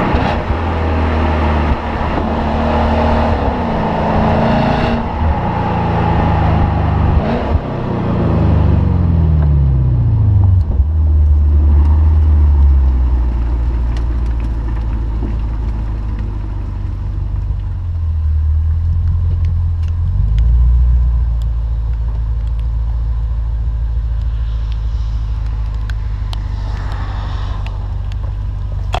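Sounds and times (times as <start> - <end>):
car exhaust drone while driving: 0.0 - 29.0.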